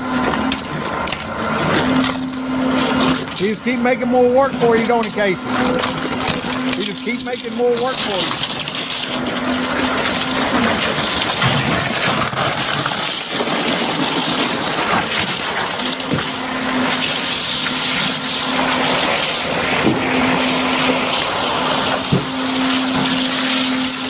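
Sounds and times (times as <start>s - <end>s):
concrete gushing from hose: 0.0s - 24.0s
pump hum: 0.0s - 24.0s.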